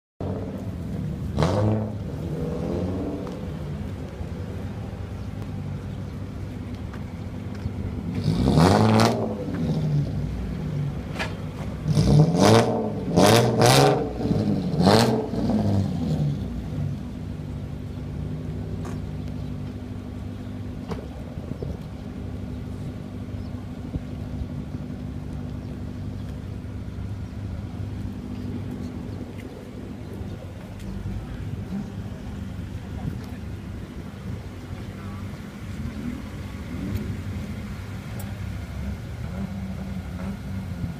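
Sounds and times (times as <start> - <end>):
car engine idling and revving: 0.2 - 40.9.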